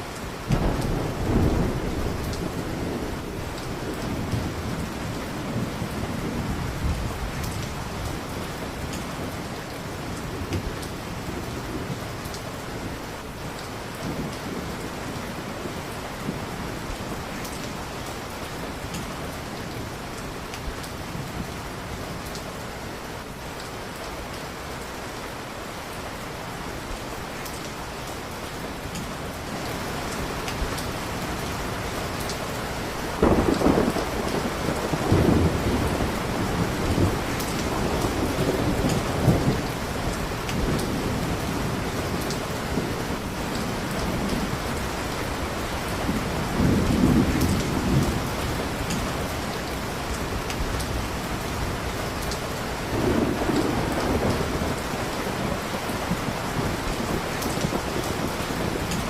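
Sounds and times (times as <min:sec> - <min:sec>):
heavy rain: 0:00.0 - 0:59.0
thunder rumbling: 0:00.4 - 0:17.8, 0:28.8 - 0:59.0.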